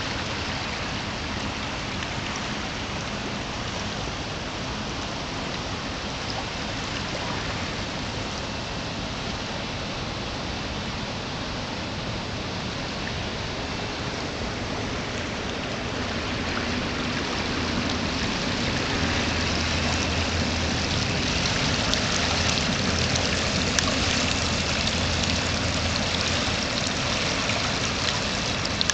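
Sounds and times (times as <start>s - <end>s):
river rushing: 0.0s - 28.9s.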